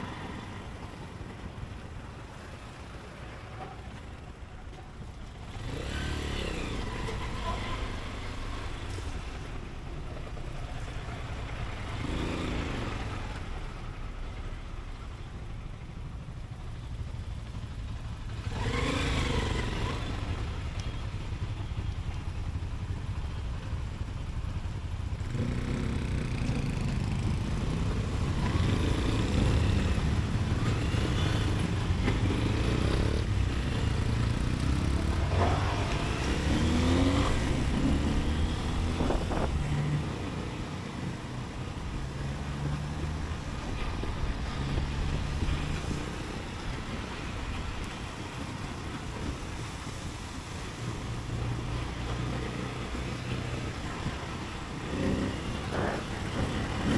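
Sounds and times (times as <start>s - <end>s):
city traffic rumble: 0.0s - 56.9s
motorcycle engine accelerating: 5.3s - 21.8s, 25.1s - 56.9s.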